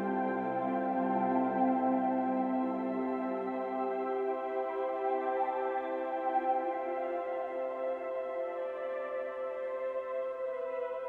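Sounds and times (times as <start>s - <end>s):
ambient music with held chords: 0.0s - 11.0s.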